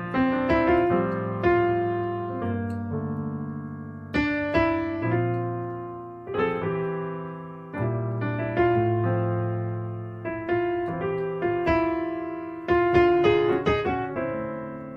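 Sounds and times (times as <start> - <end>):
jazz piano chords: 0.0 - 14.9.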